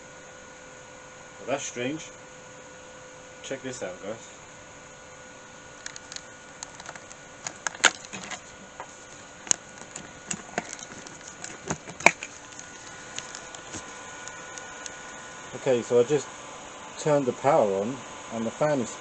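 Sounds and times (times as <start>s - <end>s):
computer fan humming: 0.0s - 19.0s.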